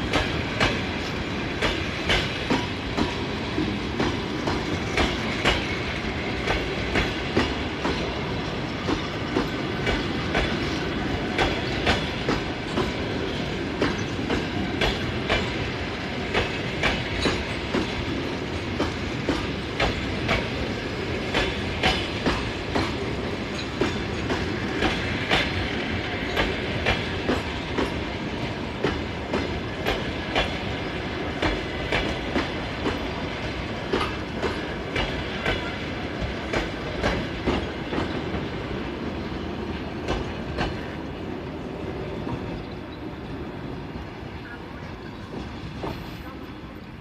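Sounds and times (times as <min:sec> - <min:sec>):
train wheels clicking over rail joints: 0:00.0 - 0:44.4, 0:45.2 - 0:47.0.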